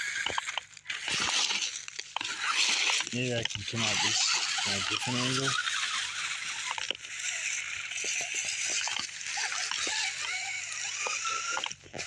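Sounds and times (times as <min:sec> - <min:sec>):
rc car motor whining: 0:00.0 - 0:12.0.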